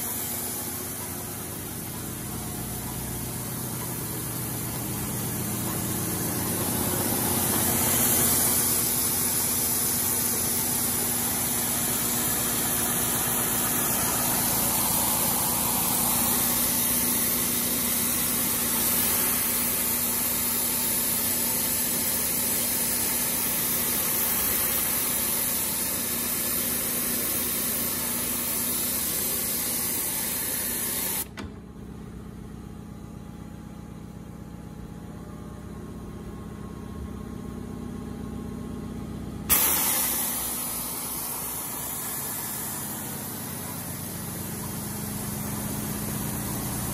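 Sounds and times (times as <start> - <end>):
machine hum: 0.0 - 26.6, 31.2 - 46.9
machine hiss: 0.0 - 31.3, 39.5 - 46.9.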